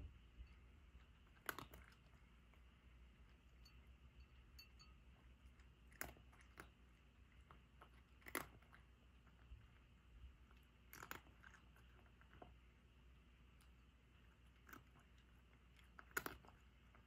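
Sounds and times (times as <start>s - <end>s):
cat crunching dry kibble: 0.9s - 3.6s, 5.0s - 17.0s.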